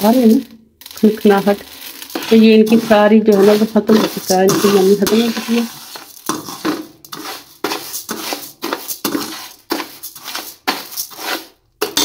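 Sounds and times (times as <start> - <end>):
rice grains rattling on metal: 0.0 - 12.0.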